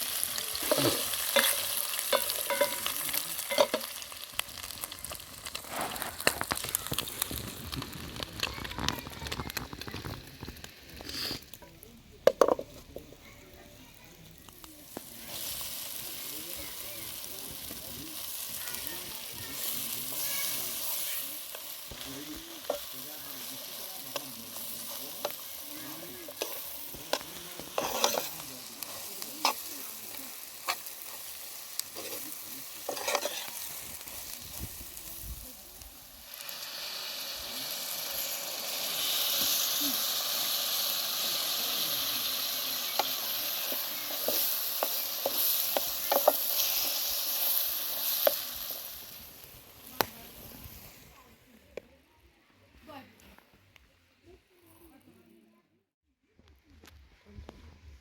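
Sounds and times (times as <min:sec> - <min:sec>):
food sizzling in a pan: 0:00.0 - 0:51.7.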